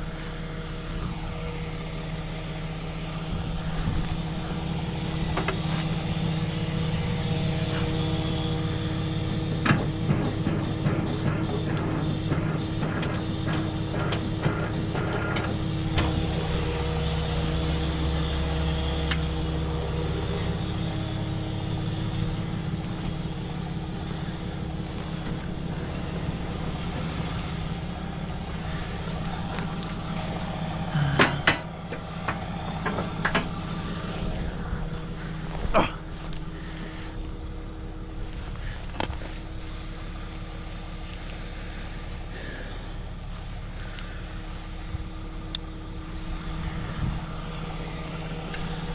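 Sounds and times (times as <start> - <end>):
deep hum: 0.0 - 48.9
truck engine droning: 0.0 - 48.9.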